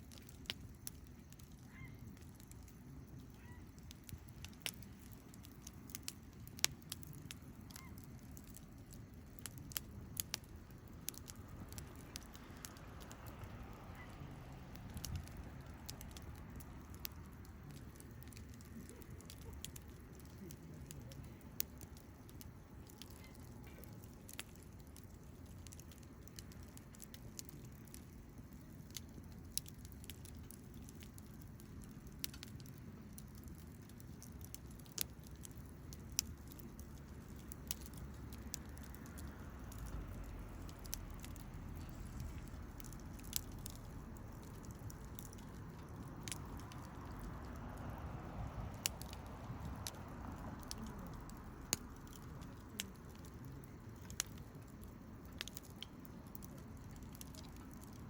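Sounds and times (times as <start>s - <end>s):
low steady rumble: 0.0s - 58.0s
wood fire crackling and popping: 0.0s - 58.0s.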